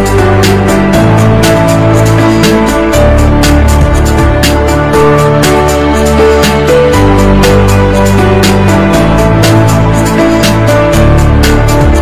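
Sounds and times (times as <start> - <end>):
deep bass line: 0.0 - 12.0
electronic chords: 0.0 - 12.0.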